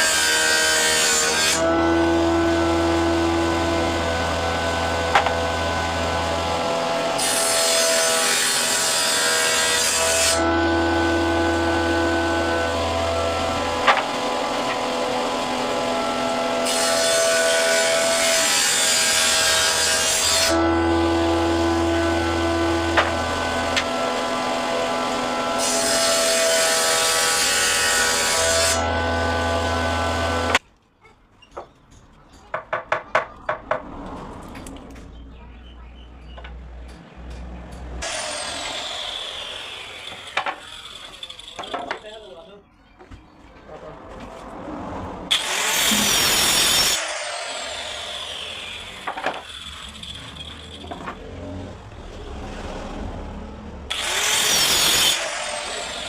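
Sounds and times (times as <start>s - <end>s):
power tool cutting wood: 0.0s - 30.6s, 38.0s - 42.4s, 45.3s - 56.0s.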